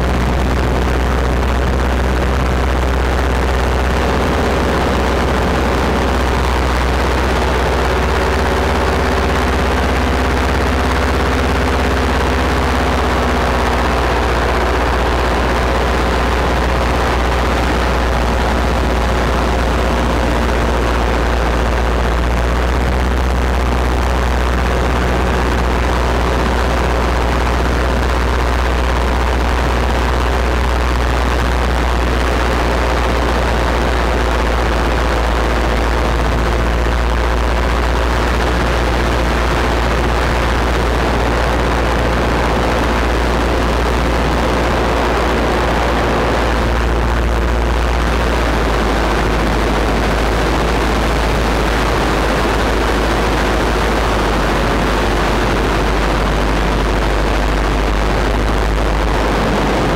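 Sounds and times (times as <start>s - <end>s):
paramotor engine drone: 0.0s - 59.9s.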